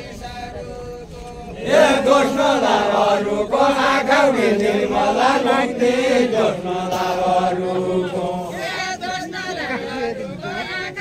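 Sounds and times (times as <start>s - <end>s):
group singing in unison: 0.0s - 11.0s.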